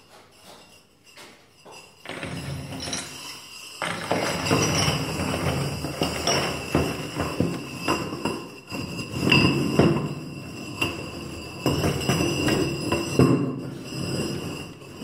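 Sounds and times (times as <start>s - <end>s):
ceramic rings knocking and clinking: 0.0s - 15.0s.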